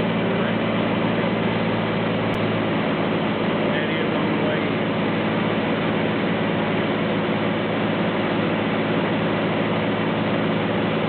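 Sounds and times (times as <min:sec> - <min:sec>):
propeller airplane engine droning: 0:00.0 - 0:11.0.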